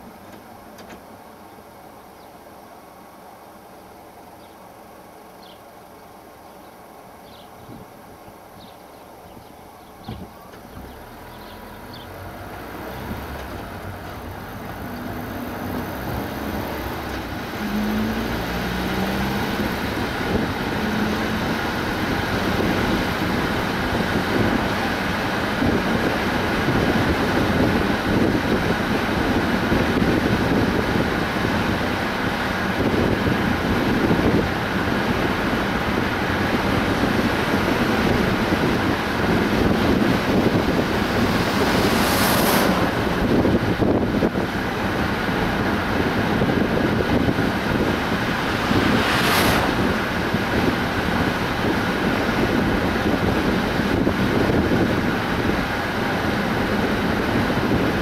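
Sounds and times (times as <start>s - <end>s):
tyre and road noise: 6.8s - 58.0s
car engine accelerating: 10.5s - 58.0s.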